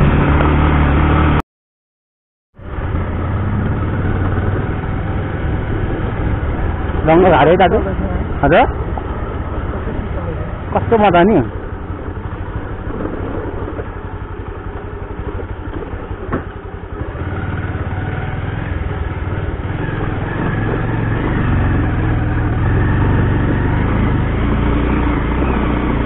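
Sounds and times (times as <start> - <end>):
motorcycle engine running: 2.6 - 26.0.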